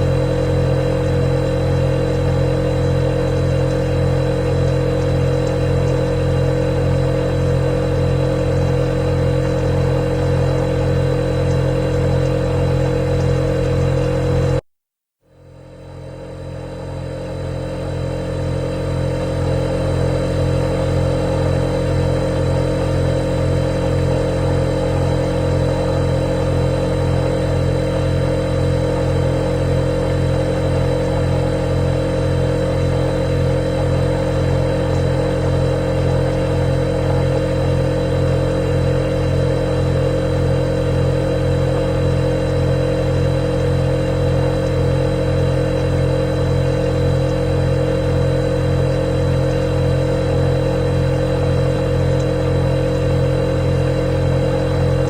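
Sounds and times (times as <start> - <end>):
refrigerator humming: 0.0 - 14.7, 15.3 - 55.0.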